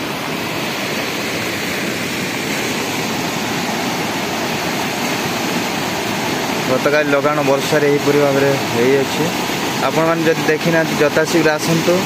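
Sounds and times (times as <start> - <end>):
floodwater rushing through channel: 0.0 - 12.0.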